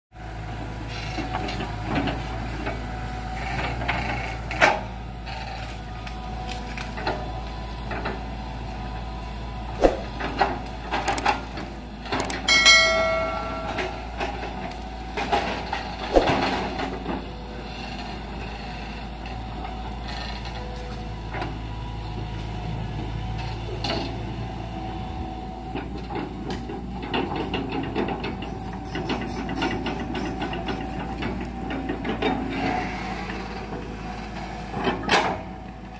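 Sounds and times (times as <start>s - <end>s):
excavator diesel engine running: 0.2s - 35.9s.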